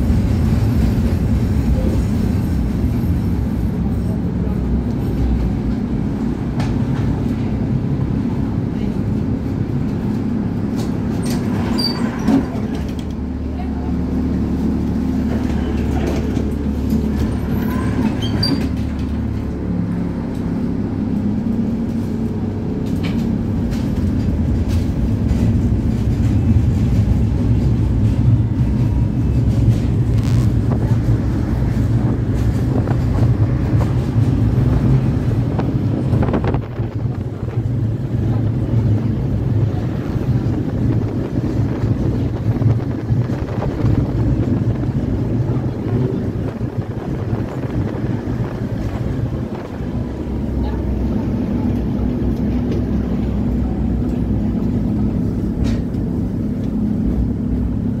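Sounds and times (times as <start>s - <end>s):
tram running on track: 0.0s - 58.0s.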